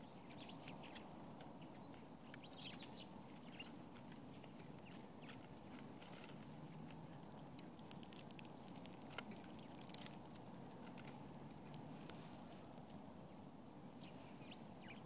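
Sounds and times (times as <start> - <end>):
low steady outdoor background: 0.0 - 15.0
small birds chip calls: 0.0 - 15.0.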